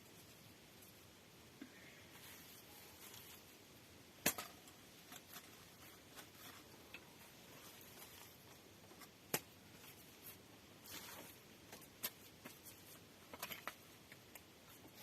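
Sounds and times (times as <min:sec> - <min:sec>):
soft rustle: 0:00.0 - 0:03.9, 0:04.6 - 0:15.0.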